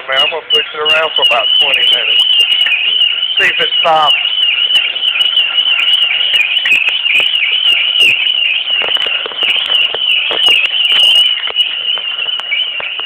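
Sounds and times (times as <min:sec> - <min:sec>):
cart wheels rattling: 0:00.0 - 0:13.0
shopping cart squealing: 0:00.0 - 0:13.0.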